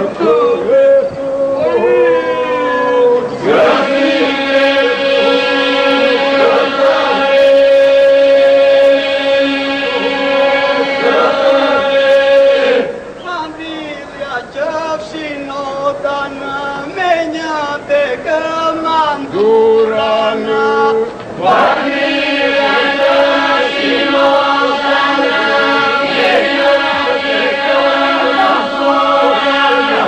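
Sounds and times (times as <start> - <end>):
male choir singing folk song: 0.0 - 2.0, 3.2 - 13.2, 18.0 - 30.0.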